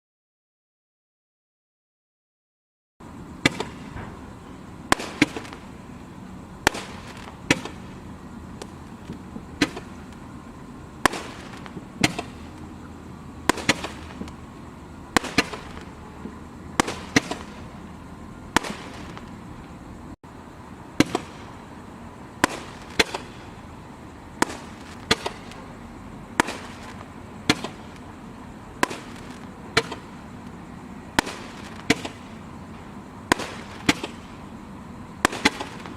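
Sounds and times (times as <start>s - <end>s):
background hiss: 3.0s - 35.9s
firework bangs: 3.3s - 19.6s, 20.9s - 34.6s, 35.2s - 35.9s.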